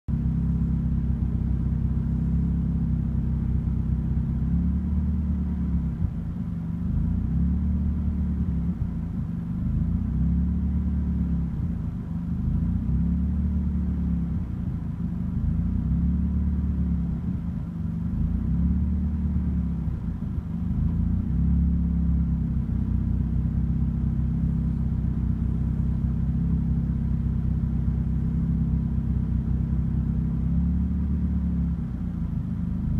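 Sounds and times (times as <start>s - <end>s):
car engine rough idle: 0.1s - 32.9s.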